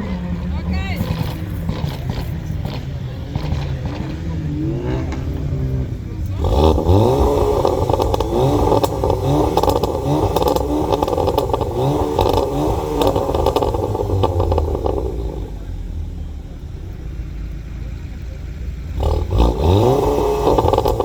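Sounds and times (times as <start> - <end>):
car engine revving: 0.0 - 21.0
exhaust pops and crackles: 0.0 - 21.0.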